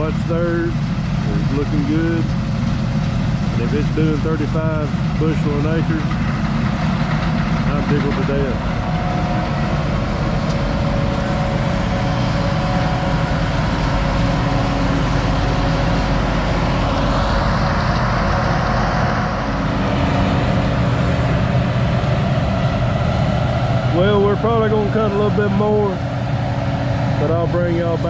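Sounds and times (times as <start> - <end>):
heavy vehicle engine running: 0.0 - 28.0
rushing noise: 0.0 - 28.0.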